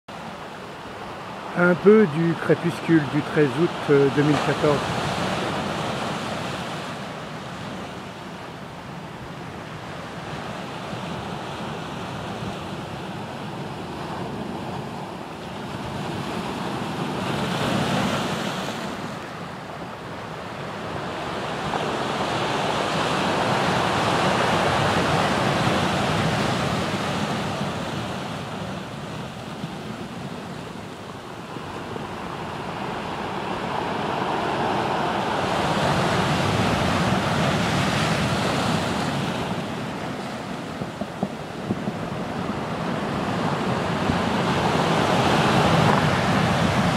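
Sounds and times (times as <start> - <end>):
surf breaking on rocky shore: 0.3 - 46.9.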